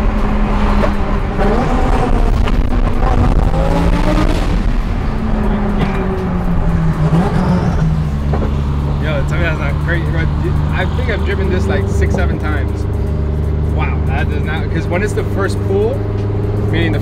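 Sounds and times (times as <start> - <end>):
car engine from inside cabin: 0.0 - 17.0.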